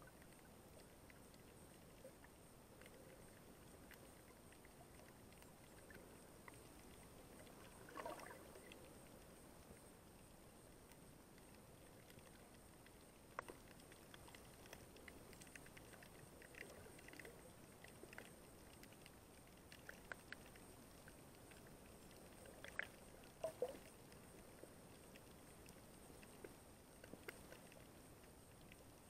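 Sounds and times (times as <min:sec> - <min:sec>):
faint clicks and ticks: 0:00.0 - 0:29.0
muffled underwater ambience: 0:00.0 - 0:29.0.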